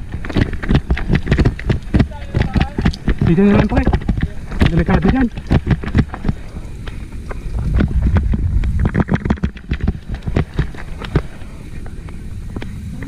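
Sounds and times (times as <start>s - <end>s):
low rumble: 0.0s - 13.0s
mountain bike clattering over rocks: 0.0s - 13.0s
wind buffeting microphone: 0.0s - 13.0s.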